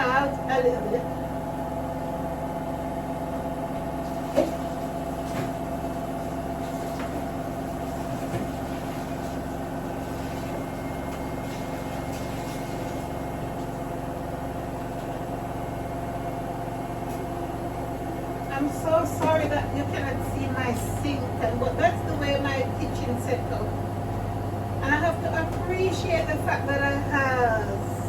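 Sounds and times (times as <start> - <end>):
mechanical hum with pulsing throb: 0.0 - 28.0.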